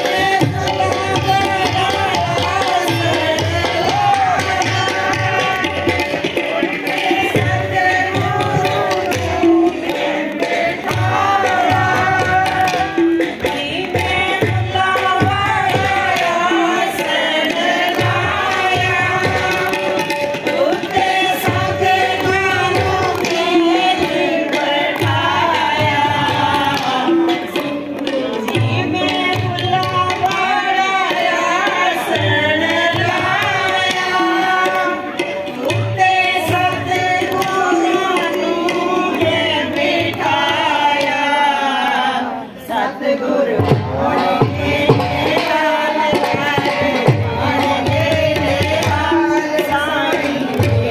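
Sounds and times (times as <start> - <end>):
women singing together: 0.0 - 50.9
drum beat: 0.1 - 40.8, 43.4 - 50.9.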